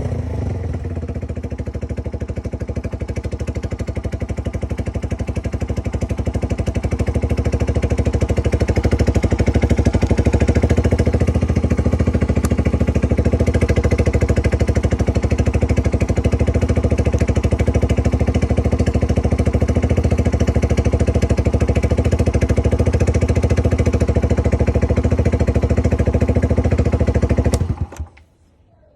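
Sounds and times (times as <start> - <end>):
motorcycle engine running: 0.0 - 28.2.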